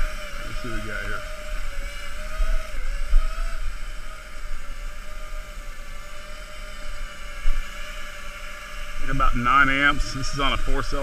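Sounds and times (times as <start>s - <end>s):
drone motors and propellers whining: 0.0s - 11.0s.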